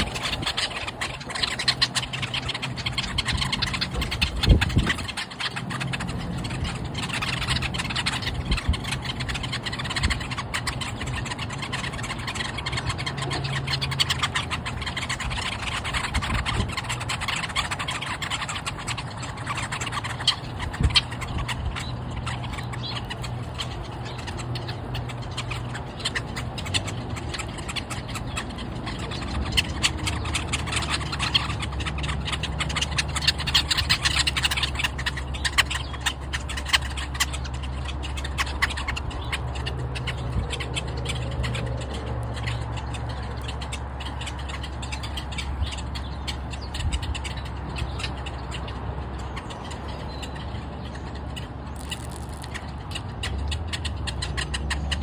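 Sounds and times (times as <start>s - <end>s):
birds chipping and chattering: 0.0s - 55.0s
low engine hum: 0.0s - 55.0s
wing flaps and pecks: 0.0s - 55.0s.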